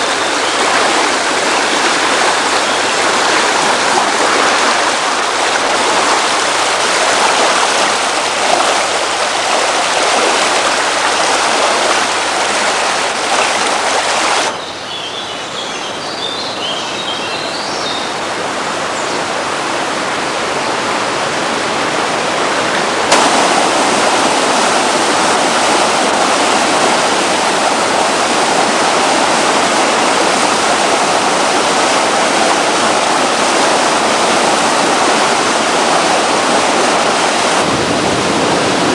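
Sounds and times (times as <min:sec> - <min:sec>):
rushing floodwater: 0:00.0 - 0:38.9.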